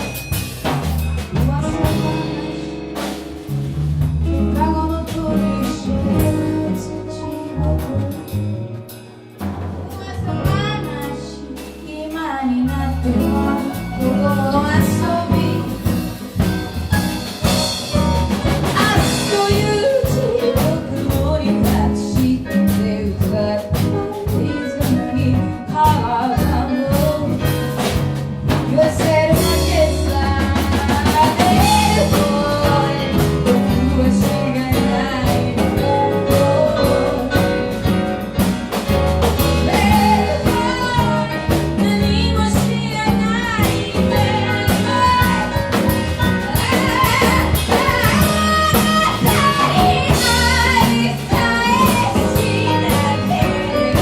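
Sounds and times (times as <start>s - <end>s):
bass line: 0.0s - 54.0s
drum kit: 0.0s - 54.0s.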